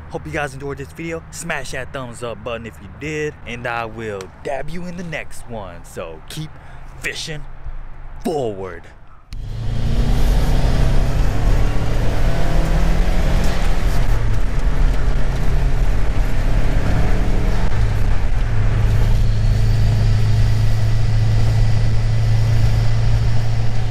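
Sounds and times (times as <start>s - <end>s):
car engine humming: 0.0s - 23.9s
road noise inside car: 0.0s - 23.9s.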